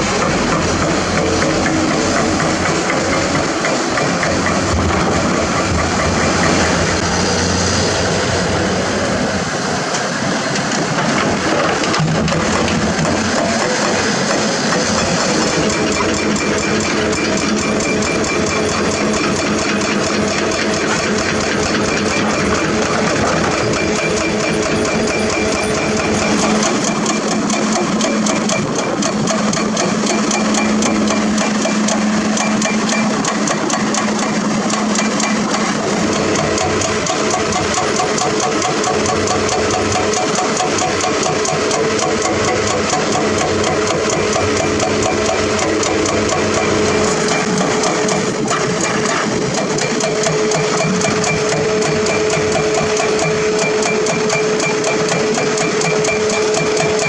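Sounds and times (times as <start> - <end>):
diesel engines clattering: 0.0 - 57.0.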